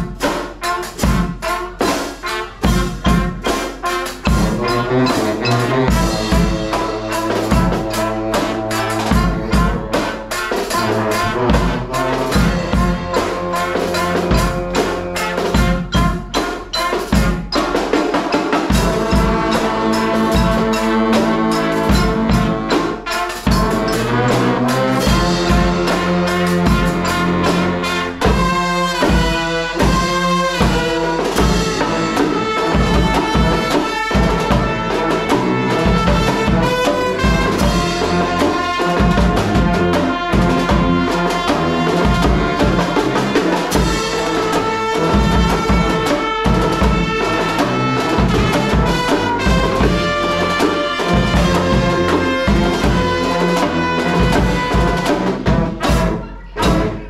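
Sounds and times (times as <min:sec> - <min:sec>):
brass band playing: 0:00.0 - 0:57.0.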